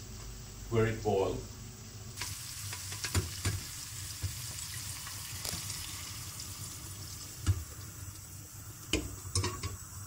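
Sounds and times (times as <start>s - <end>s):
broth sizzling in hot pan: 1.8s - 10.0s.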